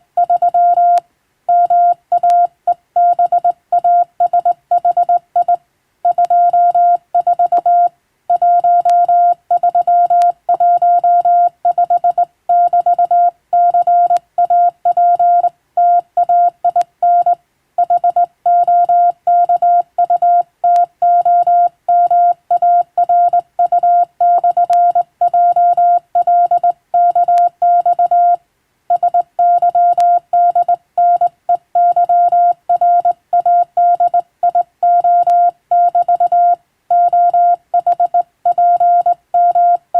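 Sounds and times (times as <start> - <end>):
morse code tone: 0.2 - 39.9.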